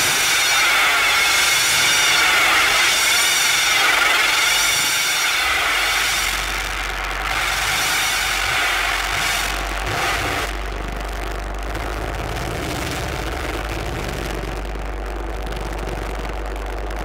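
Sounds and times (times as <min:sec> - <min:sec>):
faint steady tones: 0:00.0 - 0:17.0
loud dense feedback hiss: 0:00.0 - 0:17.0.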